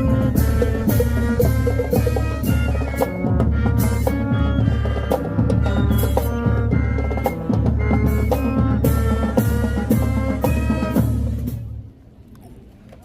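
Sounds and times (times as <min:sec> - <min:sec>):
brass notes: 0:00.0 - 0:11.8
marching drums and cymbals: 0:00.0 - 0:11.9
marching band playing: 0:00.0 - 0:12.0.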